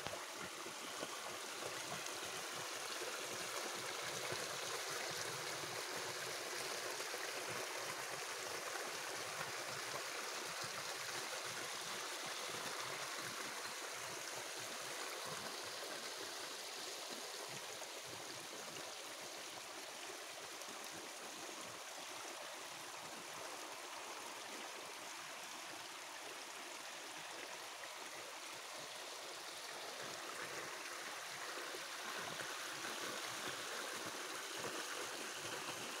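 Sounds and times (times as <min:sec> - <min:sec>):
stream water trickling: 0:00.0 - 0:36.0.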